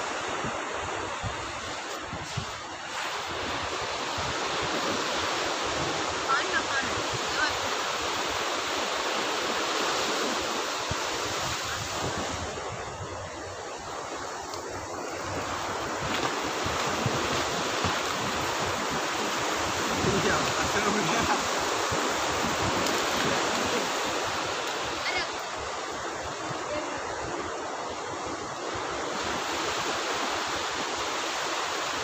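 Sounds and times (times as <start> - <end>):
sea surf breaking on sand: 0.0 - 32.0
wind rumble on microphone: 0.0 - 32.0.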